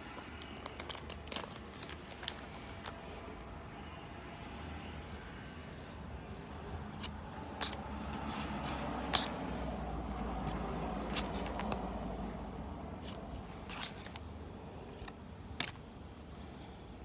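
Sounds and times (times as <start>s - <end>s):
trading cards being handled: 0.0s - 4.0s, 4.9s - 15.9s.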